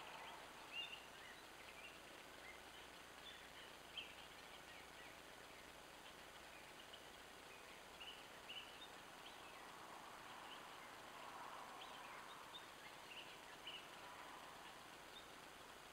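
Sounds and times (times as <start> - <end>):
faint bird chirps: 0.0 - 15.9
outdoor background hiss: 0.0 - 15.9.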